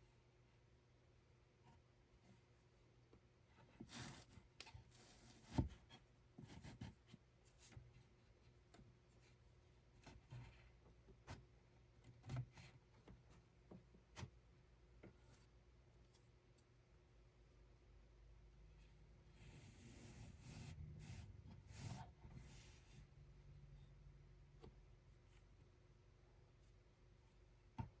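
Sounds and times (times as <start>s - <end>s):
faint rustling and rubbing: 1.7s - 17.0s, 18.7s - 28.0s.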